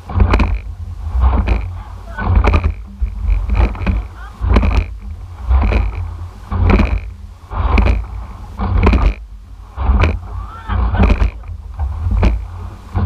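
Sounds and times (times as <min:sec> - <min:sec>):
low rumble on microphone: 0:00.0 - 0:13.0
oar clunking in oarlock: 0:00.0 - 0:13.0
rhythmic rush of water: 0:00.0 - 0:13.0.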